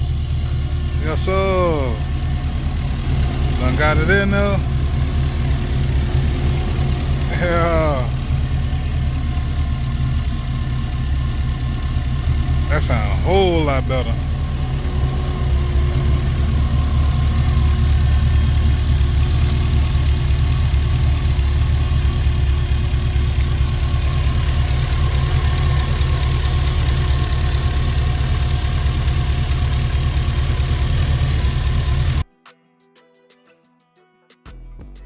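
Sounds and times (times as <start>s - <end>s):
car engine idling: 0.0s - 32.2s.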